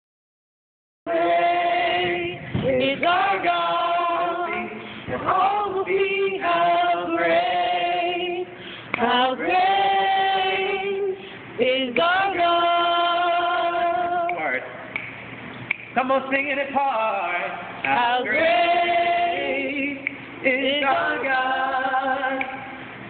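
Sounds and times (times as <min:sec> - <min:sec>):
group singing unaccompanied: 0:01.1 - 0:14.6, 0:16.6 - 0:22.9.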